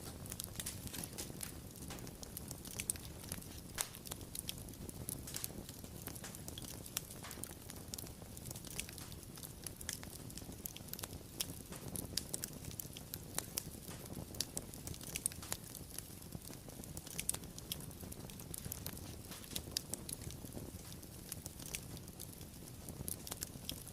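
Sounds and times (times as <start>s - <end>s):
low rumble of flames: 0.0s - 23.9s
wood fire crackling: 0.0s - 23.9s.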